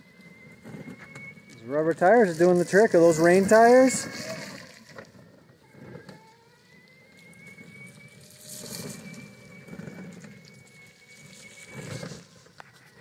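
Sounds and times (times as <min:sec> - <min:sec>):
toy car motor whine: 0:00.0 - 0:13.0.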